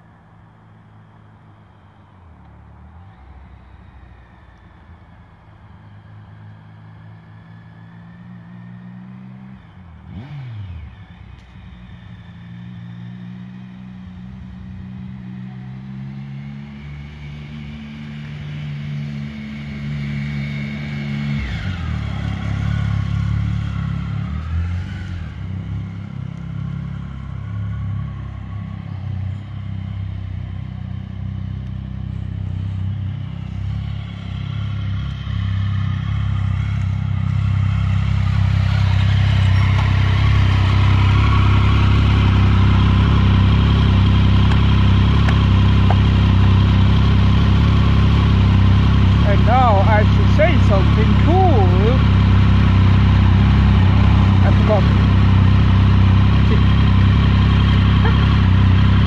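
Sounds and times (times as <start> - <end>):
motorcycle engine approaching: 0.0 - 59.0.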